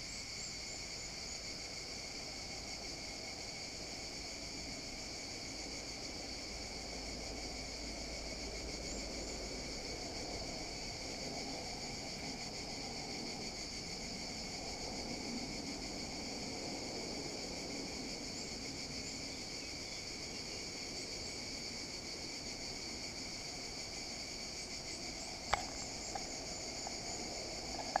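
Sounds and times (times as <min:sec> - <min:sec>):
shrill insect chorus: 0:00.0 - 0:28.0.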